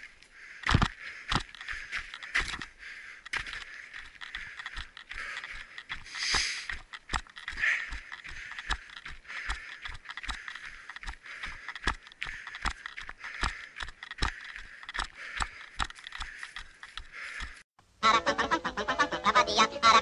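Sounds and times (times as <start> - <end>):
footsteps of person running: 0.0 - 17.7.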